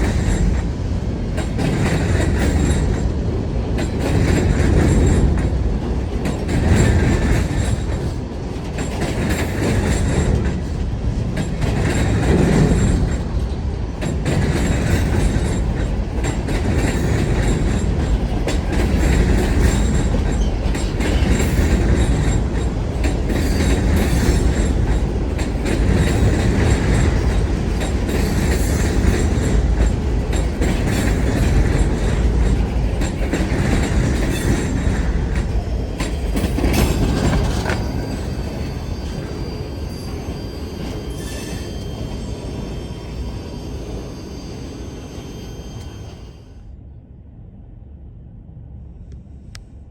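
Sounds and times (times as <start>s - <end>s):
freight train wheels rumbling: 0.0s - 49.9s.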